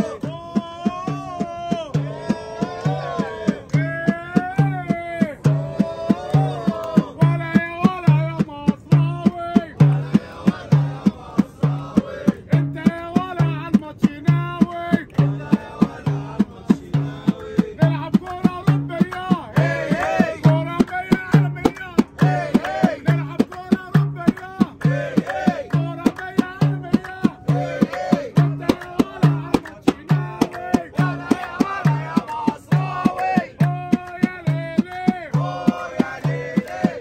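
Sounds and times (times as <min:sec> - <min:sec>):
frame drum beating: 0:00.0 - 0:37.0
men singing a chant: 0:00.0 - 0:37.0.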